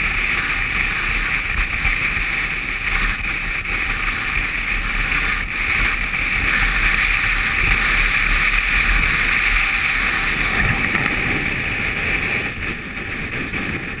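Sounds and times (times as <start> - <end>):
motorcycle riding rumble: 0.0 - 14.0
wind rushing on microphone: 0.0 - 14.0.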